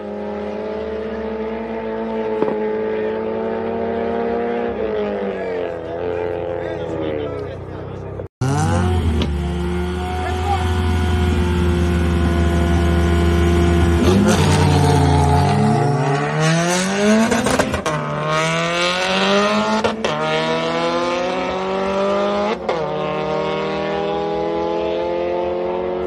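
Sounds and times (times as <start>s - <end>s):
car engines revving and accelerating: 0.0s - 26.0s.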